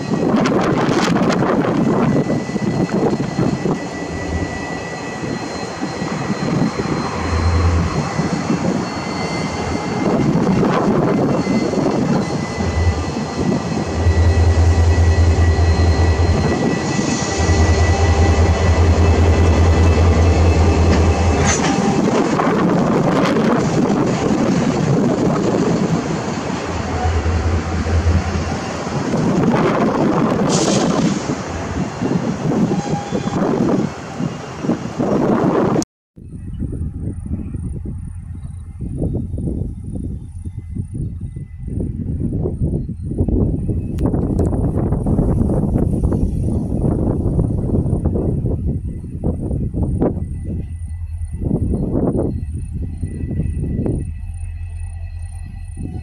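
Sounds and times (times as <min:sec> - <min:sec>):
diesel locomotive engine running: 0:00.0 - 0:35.7, 0:36.4 - 0:56.0
freight train rolling past: 0:00.0 - 0:56.0
wind buffeting microphone: 0:00.0 - 0:56.0.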